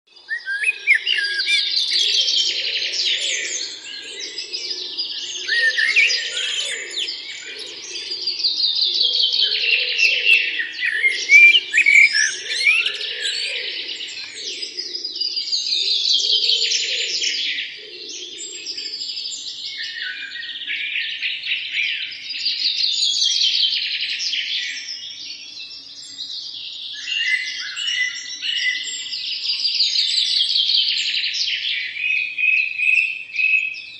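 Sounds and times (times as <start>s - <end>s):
songbirds chirping and singing: 0.1s - 33.9s.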